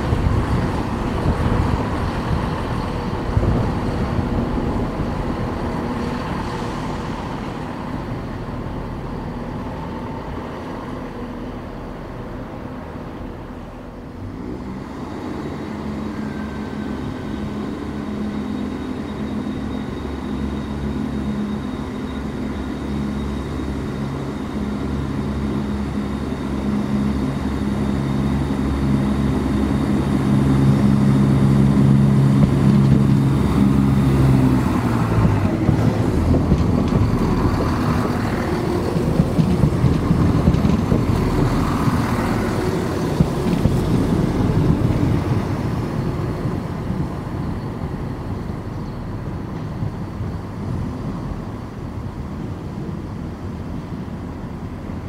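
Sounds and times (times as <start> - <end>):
diesel train engine drone: 0.0 - 55.0.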